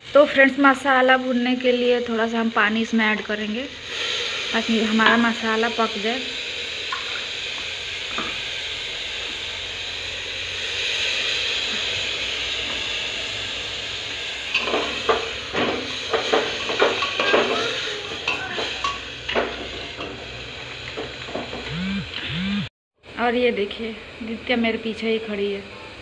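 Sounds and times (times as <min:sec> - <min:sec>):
food sizzling in a pot: 0:00.0 - 0:21.8.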